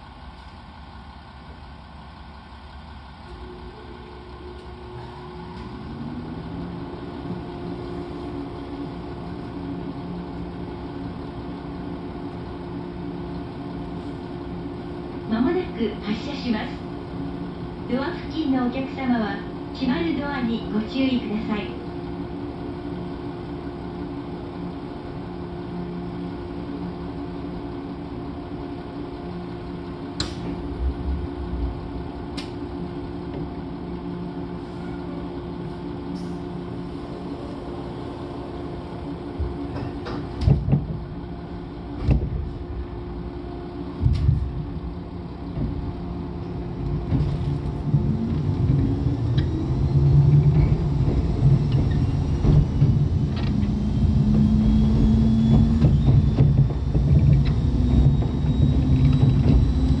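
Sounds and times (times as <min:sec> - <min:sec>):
train equipment hum: 0:00.0 - 1:00.0
traction motor whine: 0:00.3 - 1:00.0.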